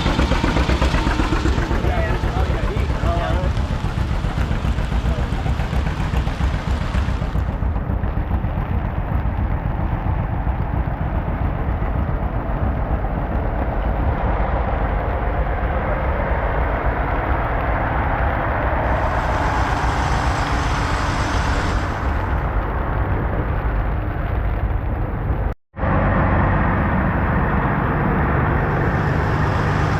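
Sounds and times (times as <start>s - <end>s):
heavy truck engine running: 0.0s - 29.9s.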